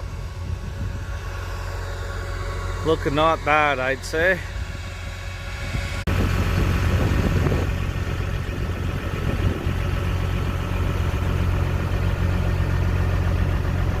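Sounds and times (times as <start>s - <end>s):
model bulldozer motor humming: 0.0s - 14.0s.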